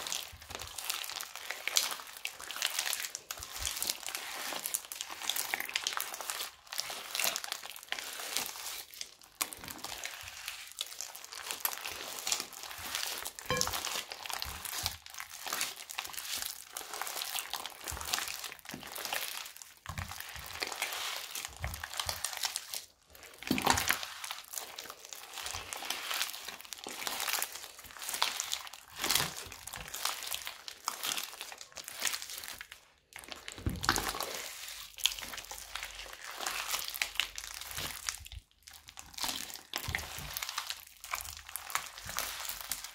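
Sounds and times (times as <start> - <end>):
crunchy slime crackling: 0.0 - 42.9.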